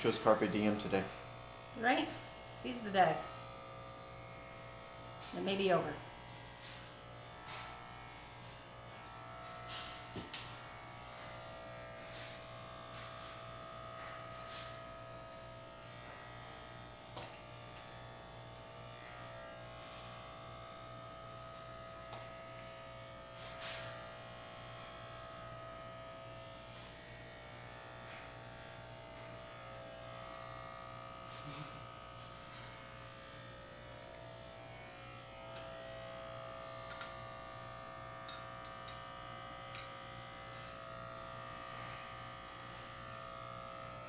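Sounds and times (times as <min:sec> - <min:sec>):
electric hair clippers buzzing: 0:00.0 - 0:44.0.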